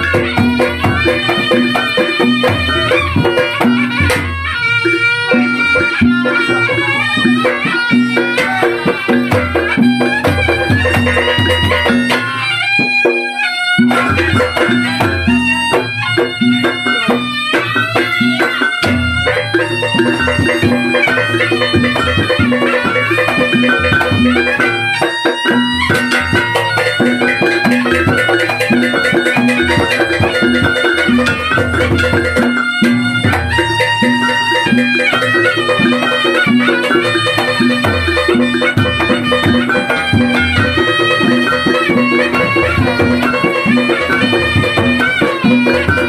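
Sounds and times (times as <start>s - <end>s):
drums: 0.0s - 46.0s
shawm playing wavering melody: 0.0s - 46.0s.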